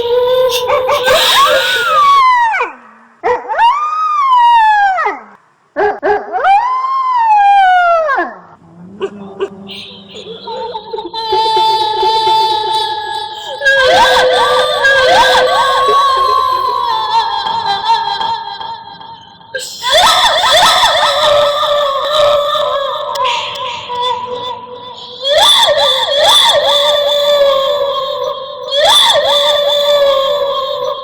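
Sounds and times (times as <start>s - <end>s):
high voice wailing: 0.0s - 3.0s, 9.0s - 31.0s.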